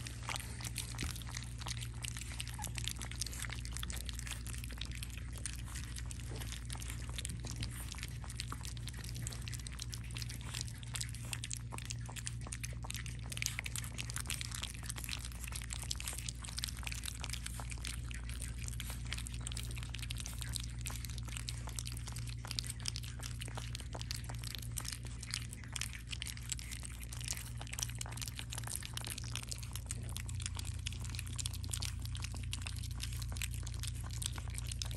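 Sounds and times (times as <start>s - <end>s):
puppies lapping wet food: 0.0s - 34.9s
steady low hum: 0.0s - 34.9s.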